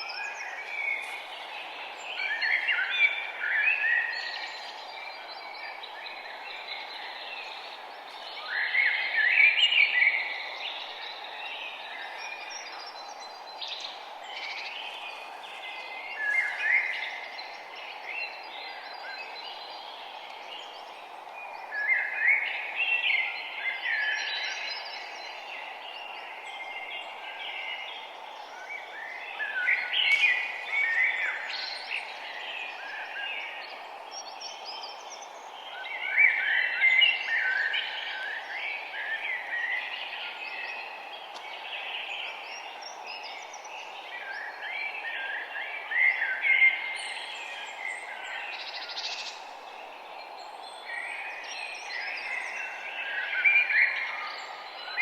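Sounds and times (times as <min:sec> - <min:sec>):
quieter bird calls: 0:00.0 - 0:55.0
songbirds singing: 0:00.0 - 0:55.0.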